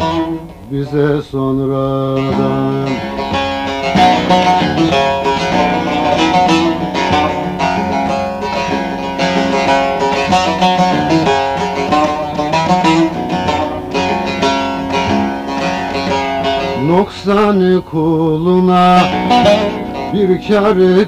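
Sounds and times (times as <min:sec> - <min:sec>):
long-necked lute plucked melody: 0:00.0 - 0:21.0.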